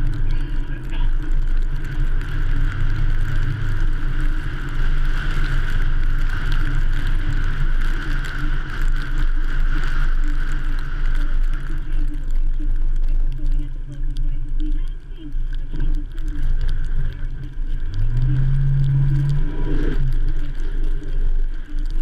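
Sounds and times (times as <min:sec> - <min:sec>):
wind and road noise rumble: 0:00.0 - 0:22.0.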